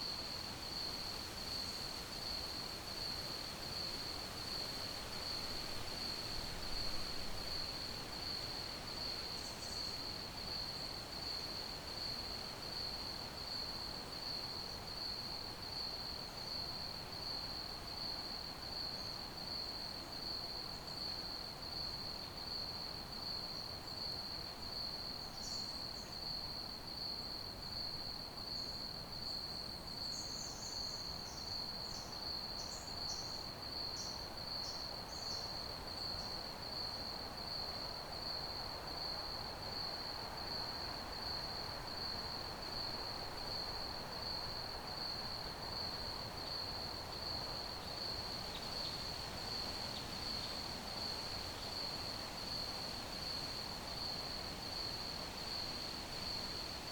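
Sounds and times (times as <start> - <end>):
crickets chirping: 0.0 - 56.9
faint background hiss: 0.0 - 56.9.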